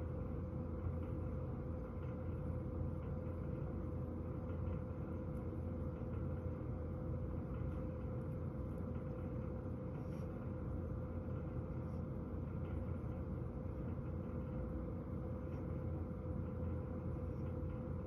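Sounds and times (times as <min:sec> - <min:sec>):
fan heater whirring: 0:00.0 - 0:18.0.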